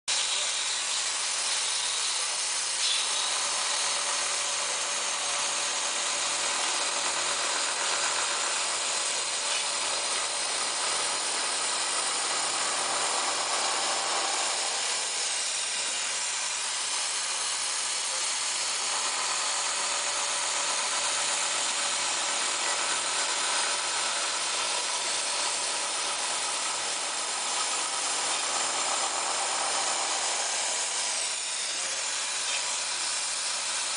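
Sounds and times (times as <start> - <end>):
milling machine cutting metal: 0.1 - 33.9.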